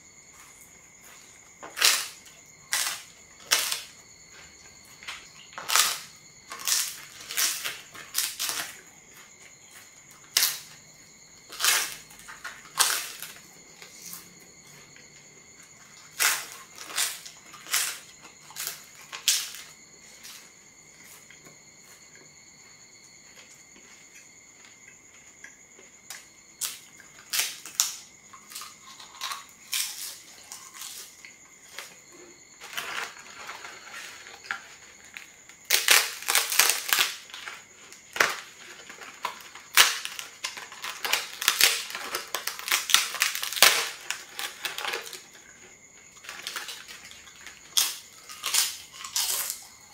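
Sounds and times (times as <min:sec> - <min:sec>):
crisp flatbread crunching: 0:01.0 - 0:22.0, 0:26.1 - 0:32.0, 0:32.6 - 0:49.7.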